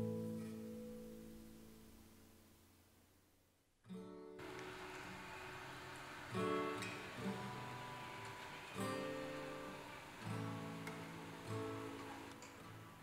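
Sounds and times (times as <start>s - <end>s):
gentle acoustic guitar chords: 0.0s - 3.2s, 3.8s - 13.0s.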